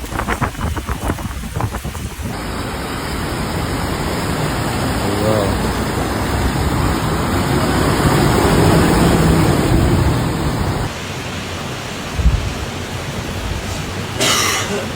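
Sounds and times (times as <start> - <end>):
floodwater rushing: 0.0 - 14.9
heavy rain: 0.0 - 14.9.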